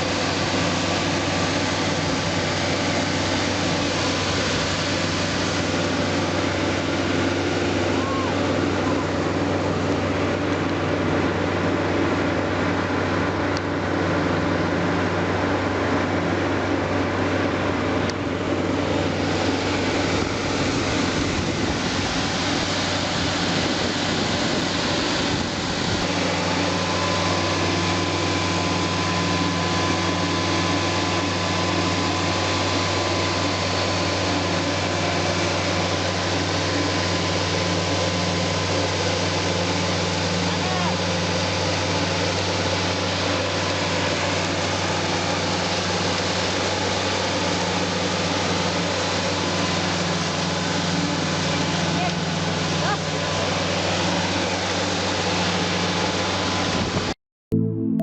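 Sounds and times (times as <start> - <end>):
heavy machinery engine hum: 0.0 - 57.2.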